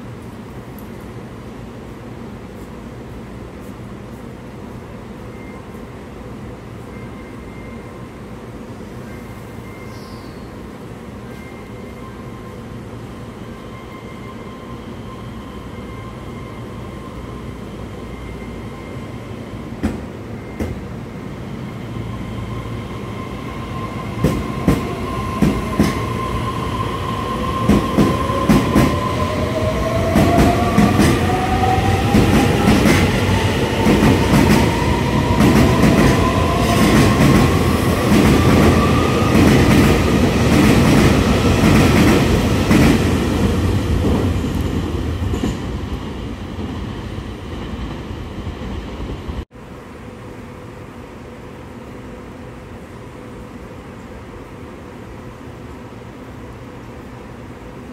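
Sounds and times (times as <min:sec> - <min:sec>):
train running noise: 0:00.0 - 0:57.9.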